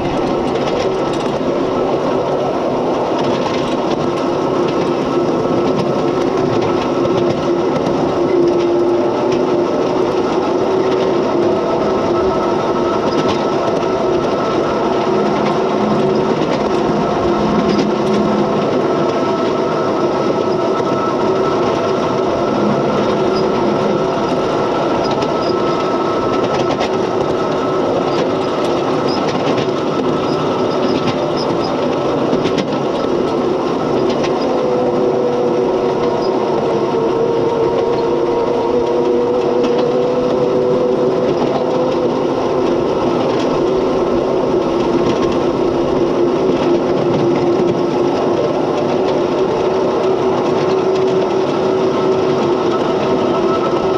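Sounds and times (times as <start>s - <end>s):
locomotive drive hum: 0.0s - 53.9s
wheels on rails: 0.0s - 53.9s.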